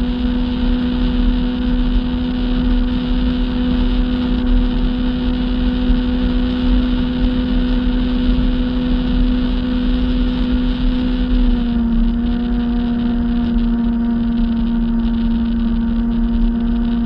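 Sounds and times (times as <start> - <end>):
jet ski engine running: 0.0 - 17.0
wind rumble on microphone: 0.0 - 17.0.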